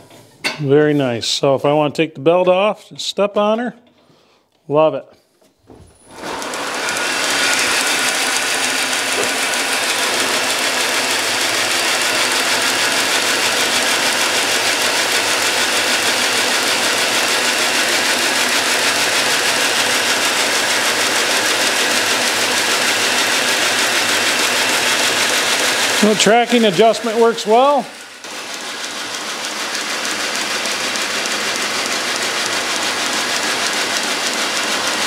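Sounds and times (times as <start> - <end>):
belt grinder whirring: 5.9 - 35.0.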